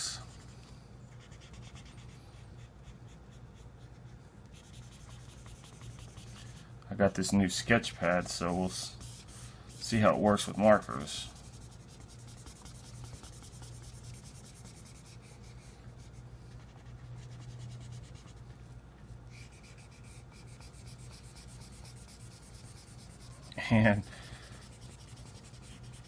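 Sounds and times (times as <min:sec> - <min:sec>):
marker scratching on paper: 0:01.1 - 0:18.4, 0:19.3 - 0:26.0.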